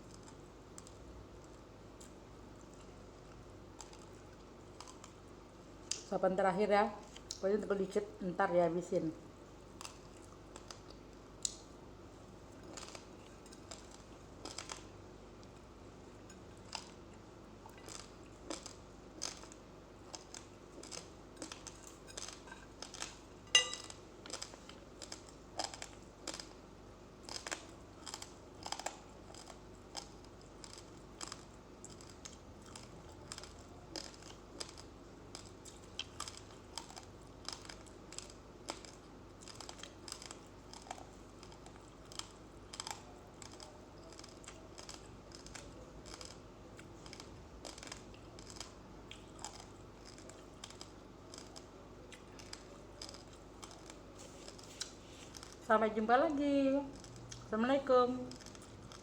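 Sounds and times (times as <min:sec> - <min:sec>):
rice grains being chewed: 0:00.0 - 0:06.1, 0:09.6 - 0:55.7, 0:56.4 - 0:59.0.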